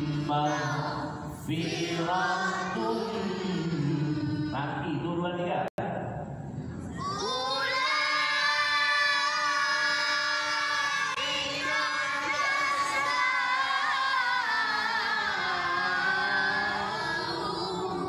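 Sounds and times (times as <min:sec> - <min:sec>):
melodic religious chanting: 0:00.0 - 0:05.7, 0:07.0 - 0:18.0.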